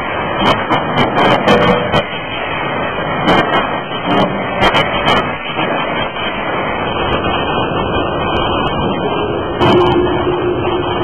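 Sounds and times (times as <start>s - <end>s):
forging hammer machinery noise: 0.3s - 6.5s, 7.8s - 11.0s.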